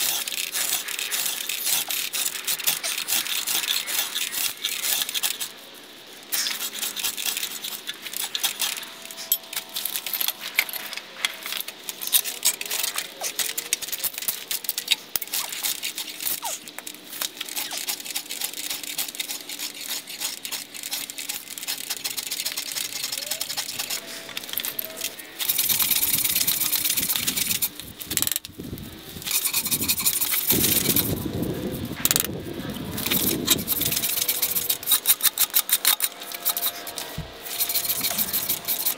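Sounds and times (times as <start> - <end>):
hand tool scraping: 0.0 - 38.9
steady rasping: 0.0 - 38.9.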